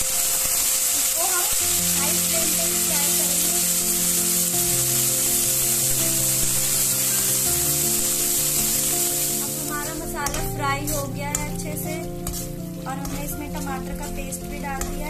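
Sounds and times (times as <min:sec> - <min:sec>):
metal spatula stirring: 0:00.0 - 0:15.0
paste and onions sizzling in oil: 0:00.0 - 0:15.0.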